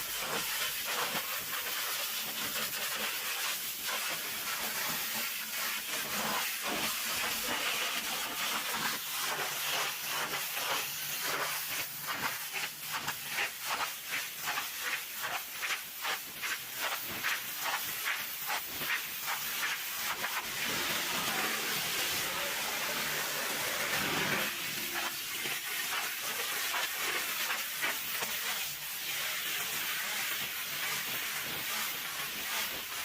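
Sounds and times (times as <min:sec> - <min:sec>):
pressure washer spray hissing: 0:00.0 - 0:33.0.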